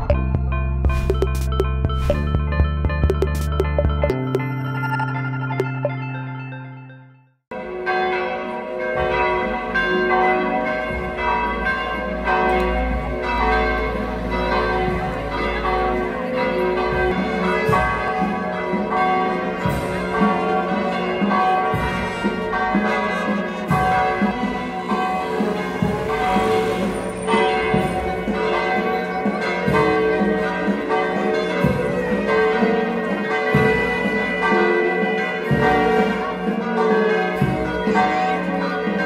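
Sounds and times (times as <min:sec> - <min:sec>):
church bells pealing: 0:04.0 - 0:39.0.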